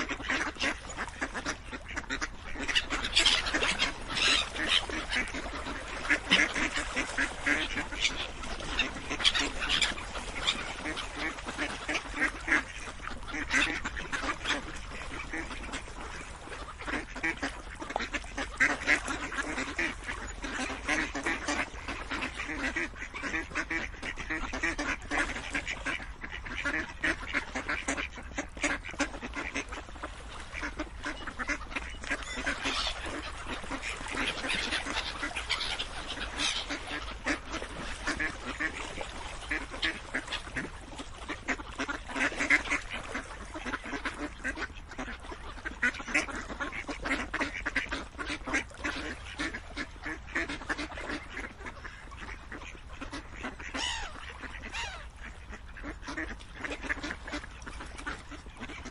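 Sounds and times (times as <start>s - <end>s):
ducks quacking: 0.0s - 58.9s.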